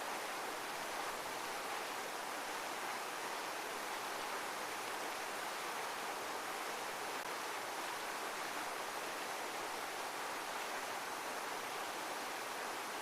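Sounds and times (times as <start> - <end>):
heavy running water rushing: 0.0 - 13.0.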